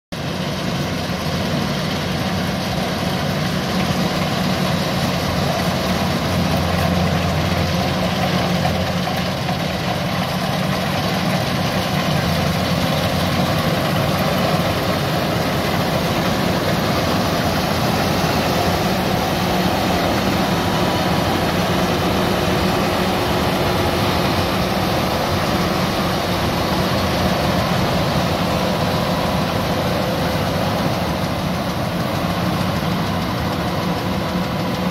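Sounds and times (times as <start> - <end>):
combine harvester engine running: 0.2 - 34.9.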